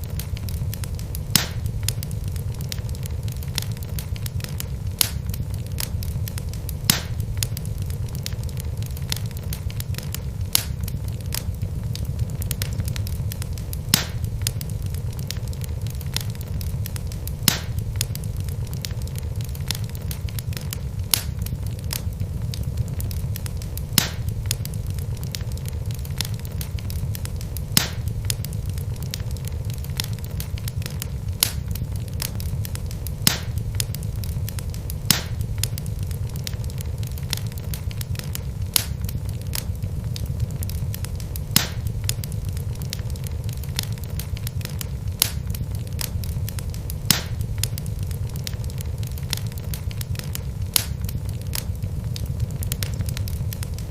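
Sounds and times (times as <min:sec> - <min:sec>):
logs crackling and popping: 0:00.0 - 0:53.9
low rumble of flames: 0:00.0 - 0:53.9.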